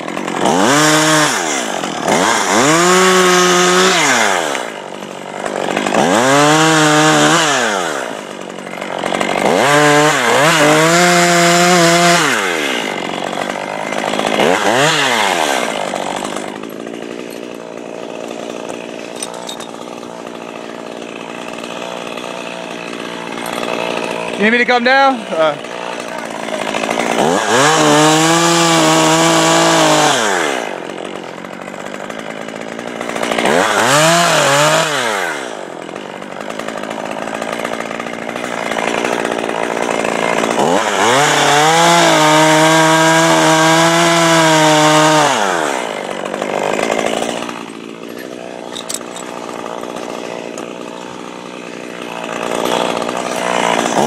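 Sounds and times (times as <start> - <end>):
chainsaw revving and idling: 0.0 - 54.0.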